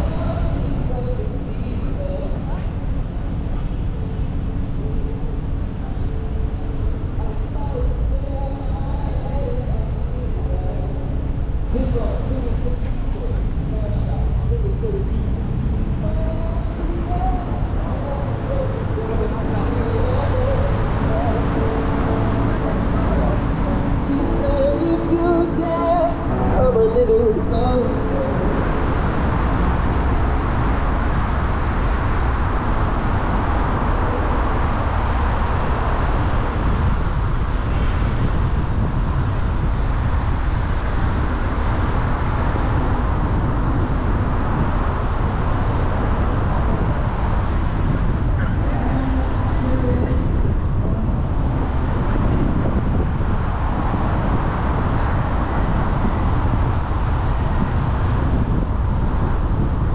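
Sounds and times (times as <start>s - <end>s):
car tyre and engine noise: 0.0s - 59.9s.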